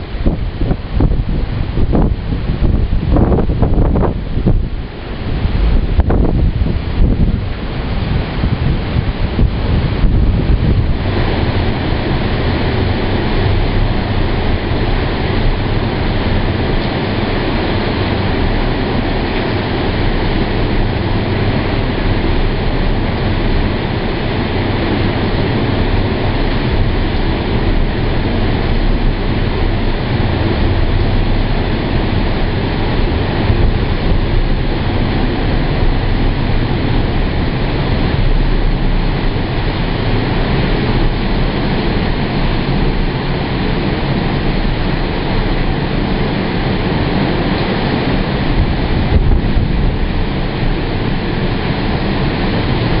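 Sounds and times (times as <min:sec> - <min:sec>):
strong wind on microphone: 0:00.0 - 0:53.0.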